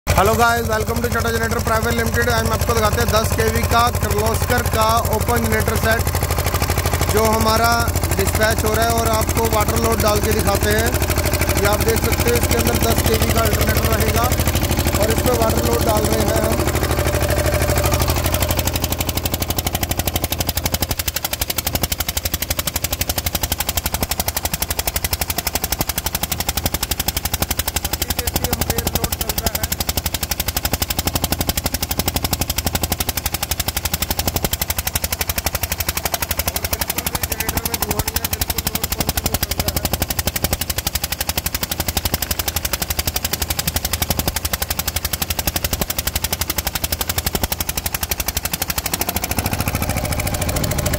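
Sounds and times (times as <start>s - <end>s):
diesel generator engine running: 0.1s - 50.9s.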